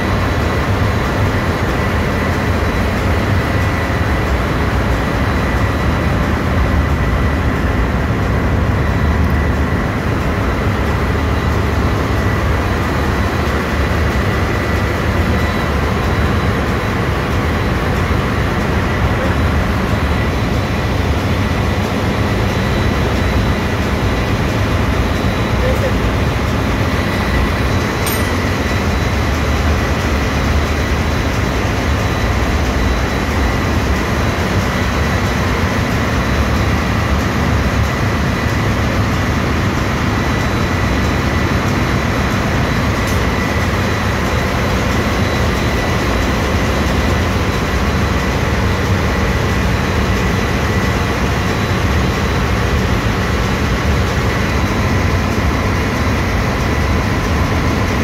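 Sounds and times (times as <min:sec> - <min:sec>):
engine-room machinery rumble: 0:00.0 - 0:58.0
high-pitched whine: 0:00.0 - 0:58.0.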